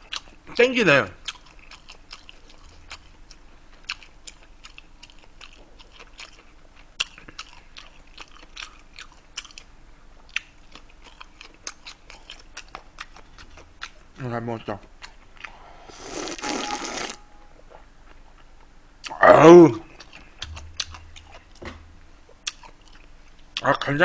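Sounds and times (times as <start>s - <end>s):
person chewing food: 0.0s - 0.6s, 1.2s - 14.1s, 15.0s - 19.2s, 19.8s - 23.6s.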